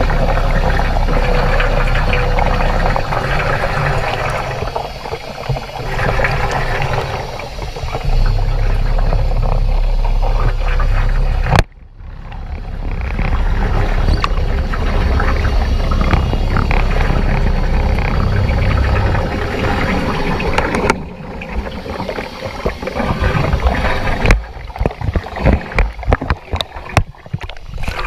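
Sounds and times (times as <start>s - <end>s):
air bubbles gurgling underwater: 0.0s - 28.0s
steady low rumble: 0.0s - 28.0s.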